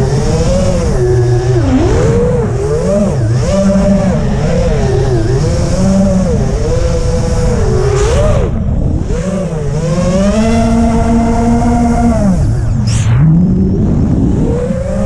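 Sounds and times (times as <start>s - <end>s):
drone motors whining: 0.0s - 15.0s
wind rush on microphone: 0.0s - 15.0s.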